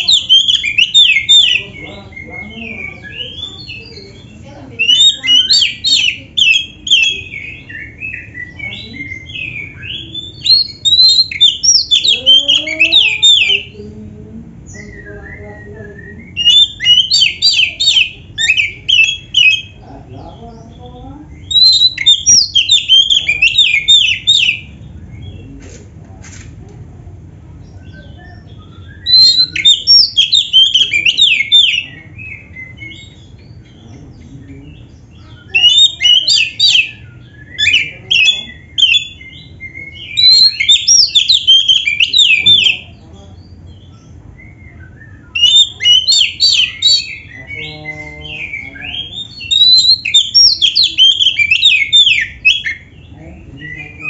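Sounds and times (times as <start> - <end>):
songbird singing rapid notes: 0.0 - 14.0, 14.6 - 25.6, 27.6 - 54.0.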